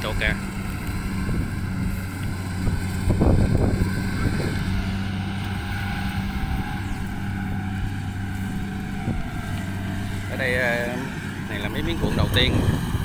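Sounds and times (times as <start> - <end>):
combine harvester engine humming: 0.0 - 13.0.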